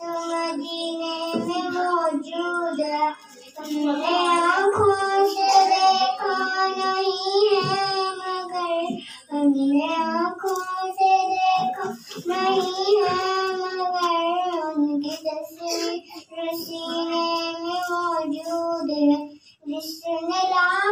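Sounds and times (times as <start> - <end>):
girl singing a hymn: 0.0 - 20.9.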